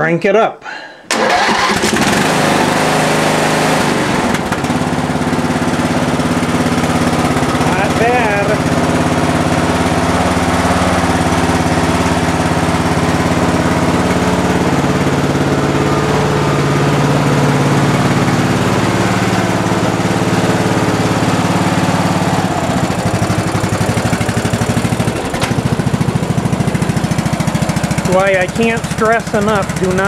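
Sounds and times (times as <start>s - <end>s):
lawn tractor engine running: 1.1s - 30.0s.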